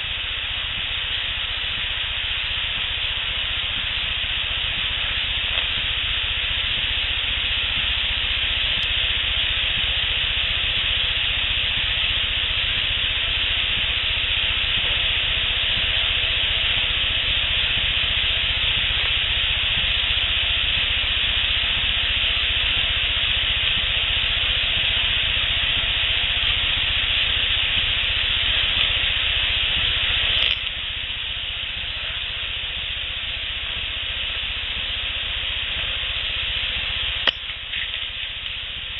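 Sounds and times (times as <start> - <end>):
steady recording hiss: 0.0 - 38.9.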